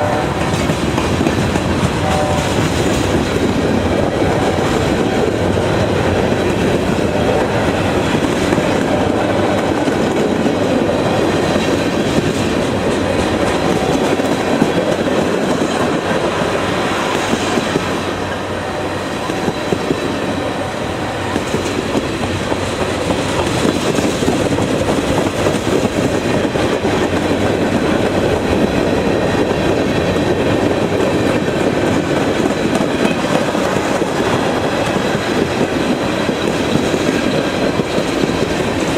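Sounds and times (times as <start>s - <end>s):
train wheels clacking over rails: 0.0s - 38.9s.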